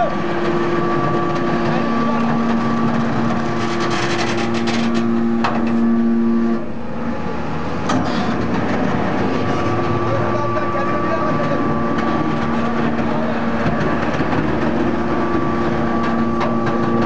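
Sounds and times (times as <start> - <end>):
hydraulic power unit whining: 0.0 - 17.0.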